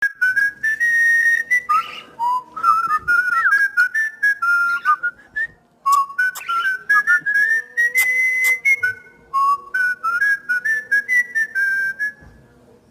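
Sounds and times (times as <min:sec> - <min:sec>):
cockatiel whistling a tune: 0:00.0 - 0:12.3.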